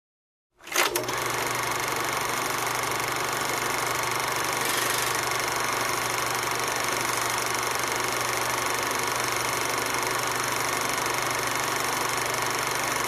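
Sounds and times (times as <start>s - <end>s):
machine motor humming: 0.9s - 13.0s.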